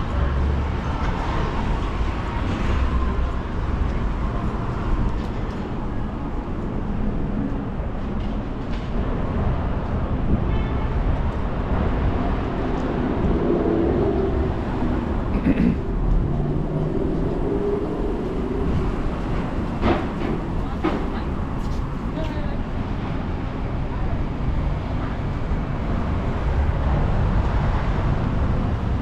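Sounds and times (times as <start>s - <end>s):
low street rumble: 0.0s - 29.0s.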